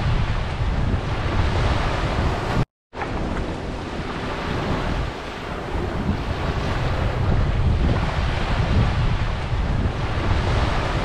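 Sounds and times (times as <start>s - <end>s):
sea waves washing onto beach: 0.0s - 11.0s
wind rumbling on microphone: 0.0s - 11.0s.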